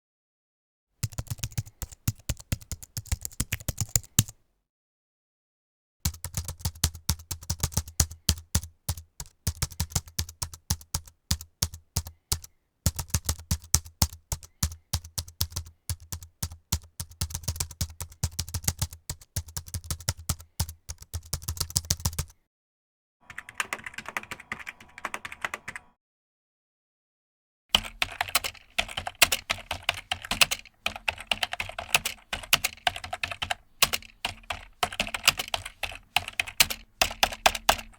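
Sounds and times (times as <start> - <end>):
typing on computer keyboard: 1.0 - 4.4, 6.1 - 22.3, 23.2 - 25.9, 27.7 - 37.9.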